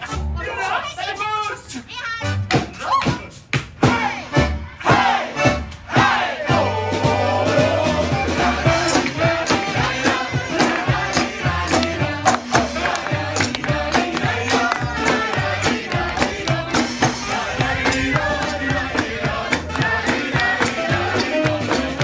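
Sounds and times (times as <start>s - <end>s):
live band music: 0.0s - 22.0s
voices calling and singing: 0.0s - 22.0s
walking bass line: 3.8s - 22.0s.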